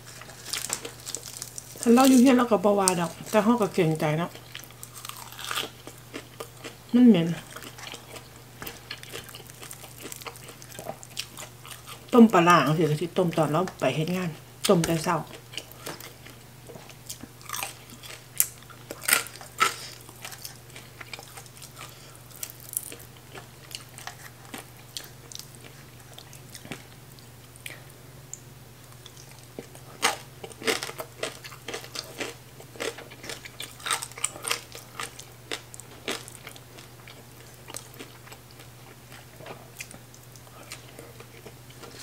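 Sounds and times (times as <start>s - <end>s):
person chewing and crunching: 0.0s - 3.4s, 4.3s - 12.5s, 14.8s - 27.9s, 28.9s - 42.0s
steady low hum: 0.0s - 42.0s.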